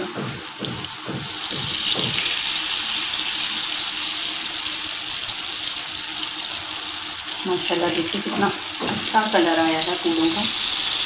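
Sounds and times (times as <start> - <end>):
hot oil sizzling in a pan: 0.4 - 11.0.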